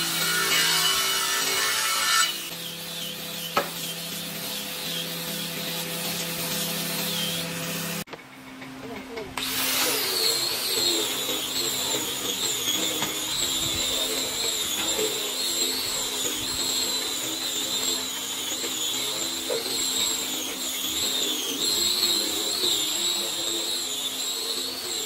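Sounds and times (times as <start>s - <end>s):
power tool motor whine: 0.0s - 8.1s, 9.4s - 25.0s.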